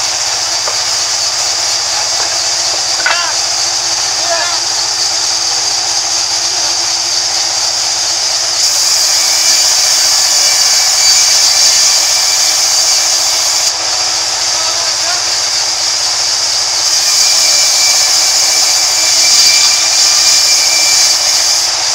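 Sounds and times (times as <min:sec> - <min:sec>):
band saw cutting wood: 0:00.0 - 0:21.9.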